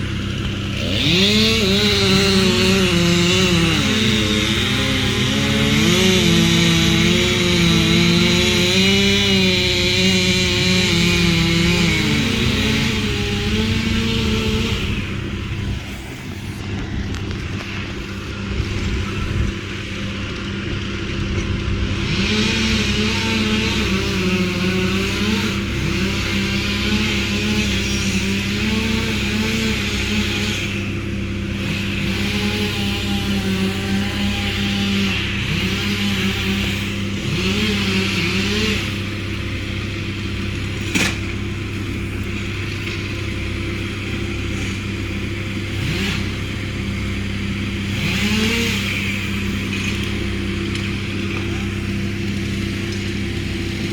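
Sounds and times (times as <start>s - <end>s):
chainsaw petrol engine running: 0.0s - 53.9s.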